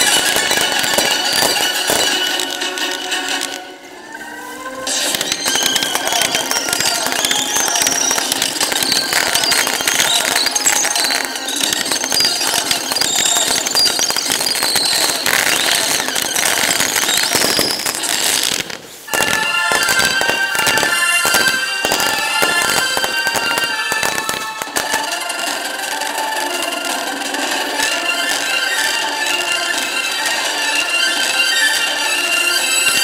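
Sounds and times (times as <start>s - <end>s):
fireworks bursts and crackles: 0.0s - 33.0s
music: 0.0s - 33.0s.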